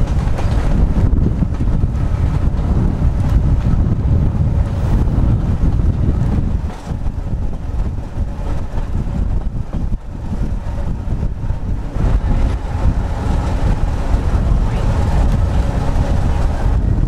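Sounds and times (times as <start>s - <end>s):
tram rumbling along track: 0.0s - 17.0s
wind buffeting microphone: 0.0s - 17.0s.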